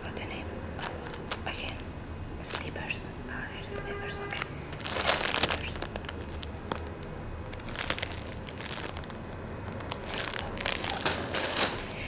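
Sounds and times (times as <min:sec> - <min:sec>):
plastic wrap crinkling: 0:00.8 - 0:02.8, 0:04.2 - 0:12.0.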